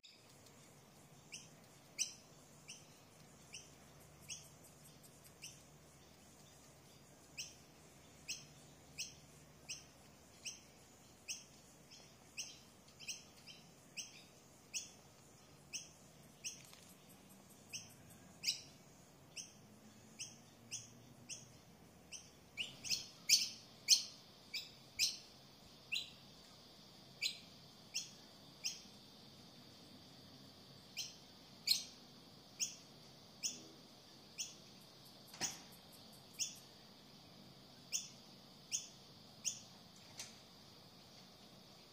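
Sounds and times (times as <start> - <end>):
bird chirping: 0.0 - 29.9, 30.5 - 41.9.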